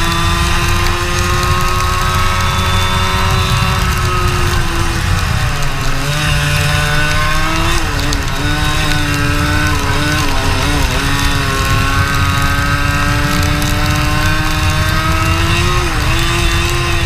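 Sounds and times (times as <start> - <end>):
racing kart engine: 0.0 - 17.0.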